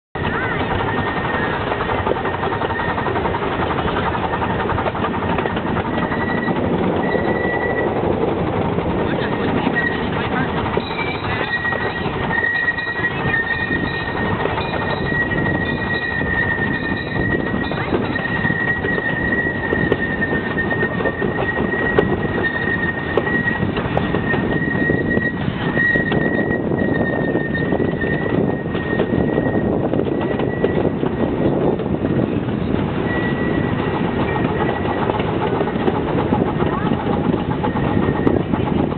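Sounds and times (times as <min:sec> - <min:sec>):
steam locomotive chuffing: 0:00.2 - 0:38.9
wheels clattering on rails: 0:00.2 - 0:38.9.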